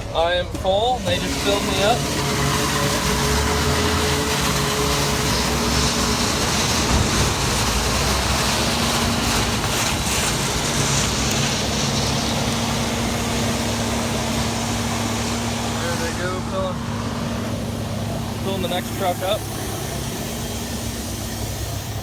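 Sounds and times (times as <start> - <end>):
diesel machinery engine hum: 0.0 - 22.0
rushing hiss: 1.1 - 22.0.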